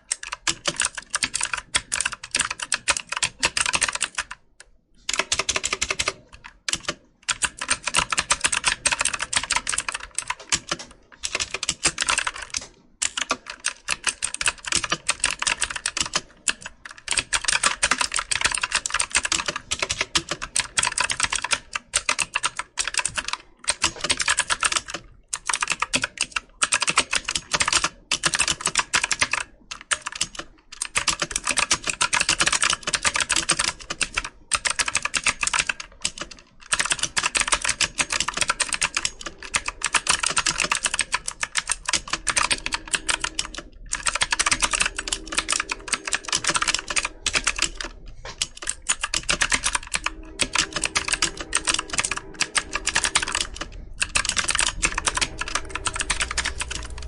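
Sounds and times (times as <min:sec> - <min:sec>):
computer keyboard typing: 0:00.0 - 0:57.0.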